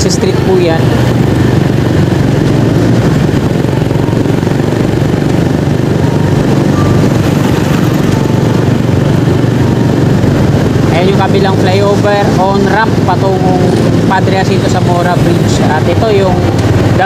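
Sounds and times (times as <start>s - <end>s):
motorcycle engine running: 0.0s - 17.0s
road noise rushing: 0.0s - 17.0s.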